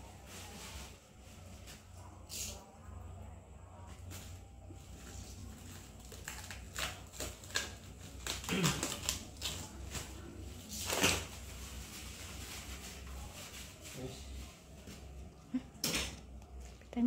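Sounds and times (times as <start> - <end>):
plastic wrapping rustling and crinkling: 0.0 - 2.5, 3.9 - 15.3.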